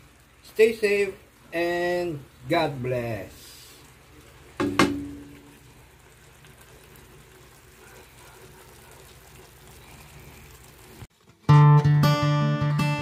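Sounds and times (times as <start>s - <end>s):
sauce simmering in a wok: 0.0s - 1.6s, 2.2s - 11.5s.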